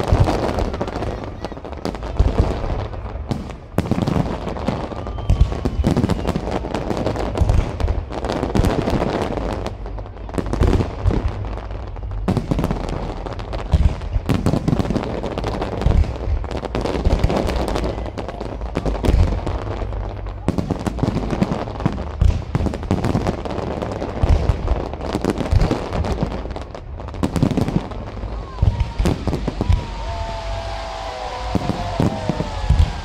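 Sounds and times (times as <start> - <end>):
fireworks bursting: 0.0 - 33.0
fireworks crackling: 0.0 - 33.0.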